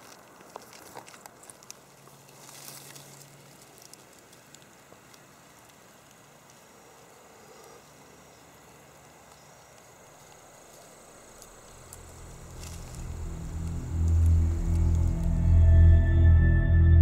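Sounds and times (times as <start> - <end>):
low even hiss: 0.0 - 16.5.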